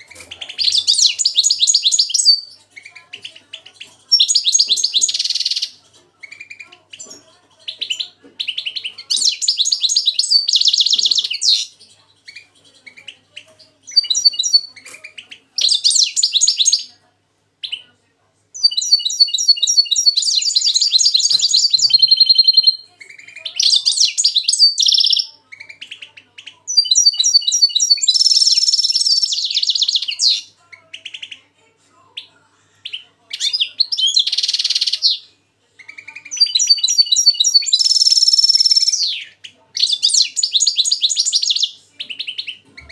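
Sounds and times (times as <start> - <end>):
finches twittering song: 0.0 - 16.9, 18.6 - 31.4, 32.2 - 42.9.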